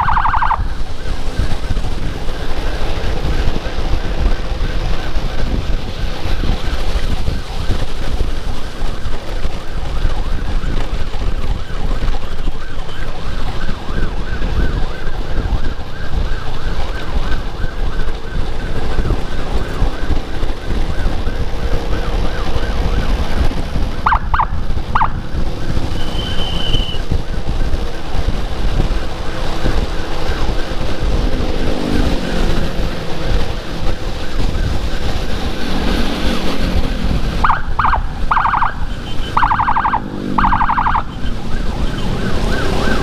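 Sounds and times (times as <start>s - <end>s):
pulsing emergency siren: 0.0s - 43.0s
wind and road noise rumble: 0.0s - 43.0s.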